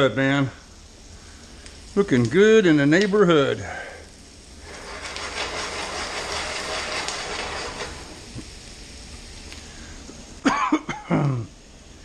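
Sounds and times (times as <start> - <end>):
onions sizzling in a frying pan: 0.0 - 10.5, 11.2 - 12.0.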